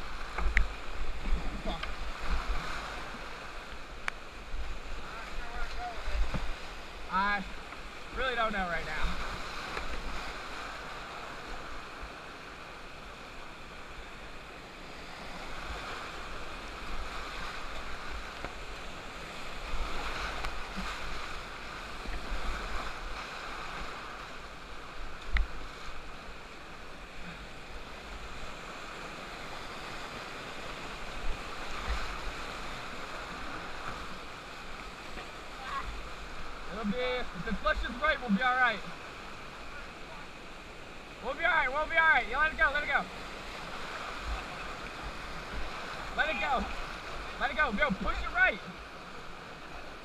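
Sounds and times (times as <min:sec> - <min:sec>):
whitewater rapids rushing: 0:00.0 - 0:50.0.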